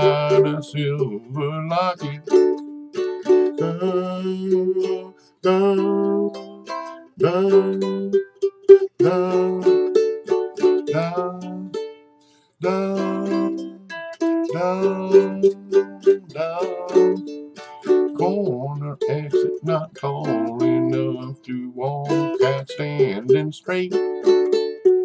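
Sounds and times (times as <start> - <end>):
ukulele playing: 0.0 - 25.0.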